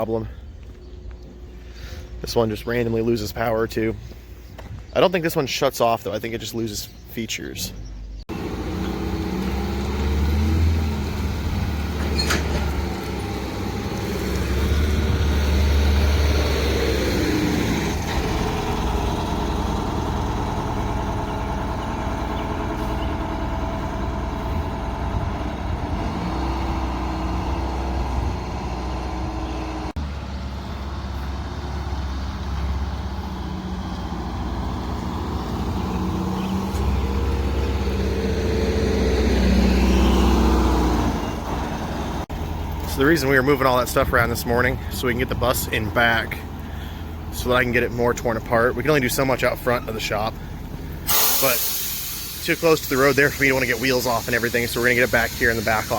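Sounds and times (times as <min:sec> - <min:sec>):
diesel engine running: 0:07.8 - 0:55.9.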